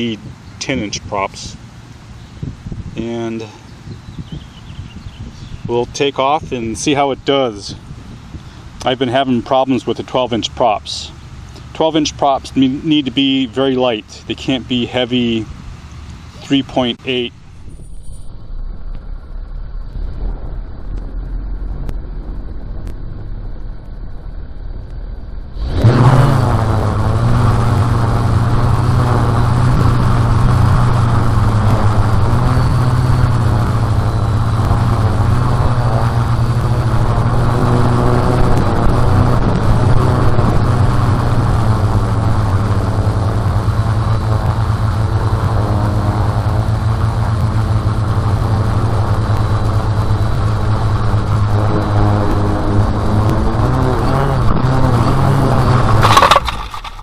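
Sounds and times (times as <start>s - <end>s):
drone propellers humming: 0.0s - 57.0s.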